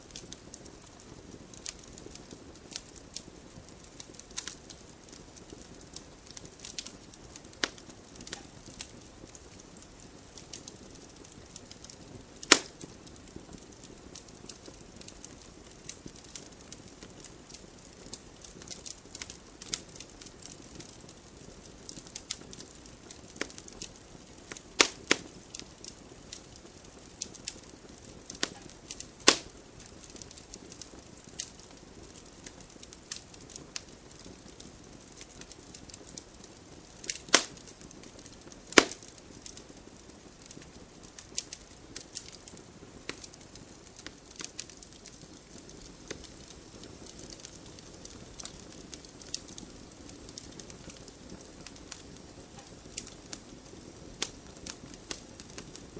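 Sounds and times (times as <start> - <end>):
fire popping: 0.0 - 55.9
wood fire crackling: 0.0 - 55.9.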